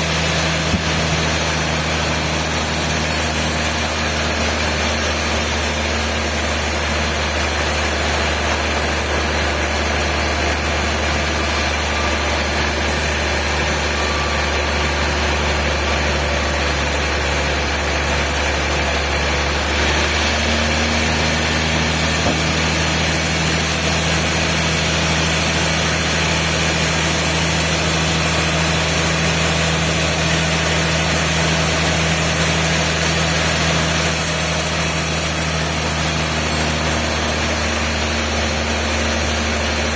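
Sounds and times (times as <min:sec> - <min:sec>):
low motor hum: 0:00.0 - 0:39.9
sawmill machinery running: 0:00.0 - 0:39.9.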